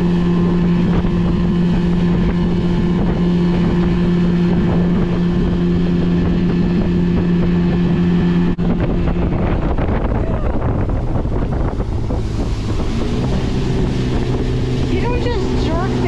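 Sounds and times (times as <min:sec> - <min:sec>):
outboard motor droning: 0:00.0 - 0:16.0
water rushing: 0:00.0 - 0:16.0
wind on microphone: 0:00.0 - 0:16.0.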